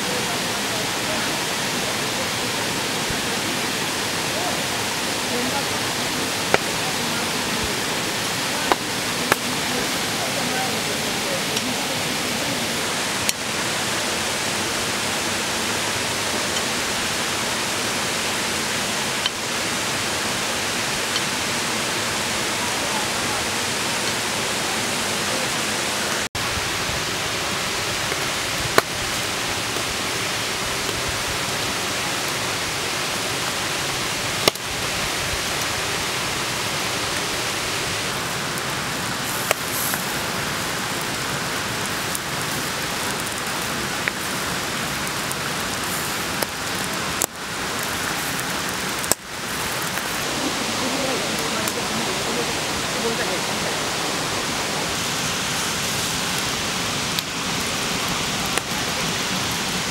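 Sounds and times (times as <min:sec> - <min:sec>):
flowing river water: 0:00.0 - 0:59.9.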